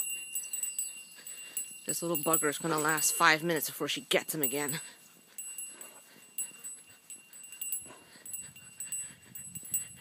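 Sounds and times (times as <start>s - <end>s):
dog collar tags jingling: 0.0s - 10.0s.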